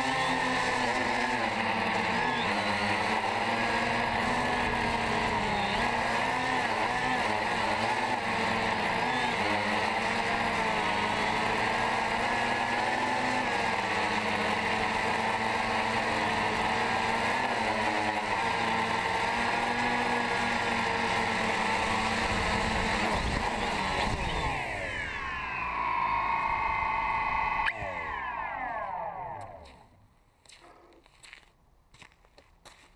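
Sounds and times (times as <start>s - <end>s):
drone propellers buzzing: 0.0s - 30.0s.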